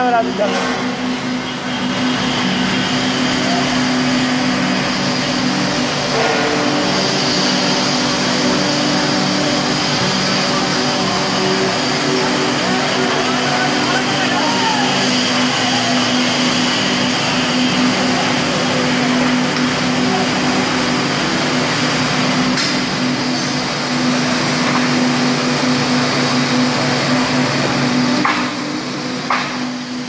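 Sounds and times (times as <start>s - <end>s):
construction machinery drone: 0.0s - 30.0s.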